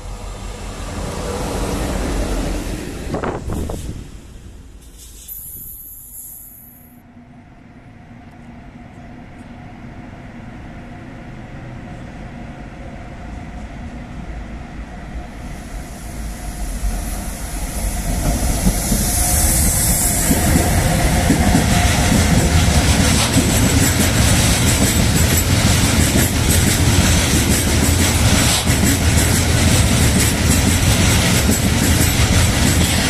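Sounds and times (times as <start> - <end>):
freight train rumbling on rails: 0.0 - 33.0.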